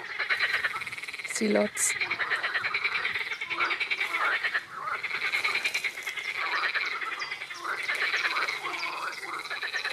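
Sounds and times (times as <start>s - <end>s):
frogs croaking in chorus: 0.0s - 9.9s.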